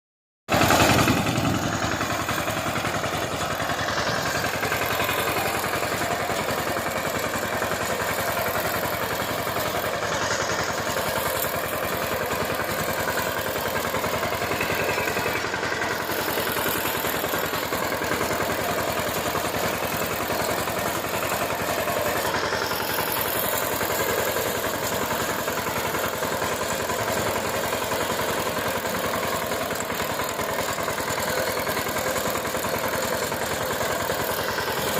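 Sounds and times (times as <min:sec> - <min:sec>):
power tiller diesel engine running: 0:00.5 - 0:34.9.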